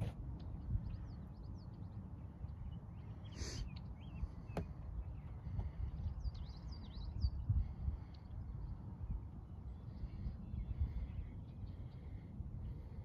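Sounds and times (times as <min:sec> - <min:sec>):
low rumble on microphone: 0:00.0 - 0:13.0
small birds chirping: 0:00.0 - 0:13.0.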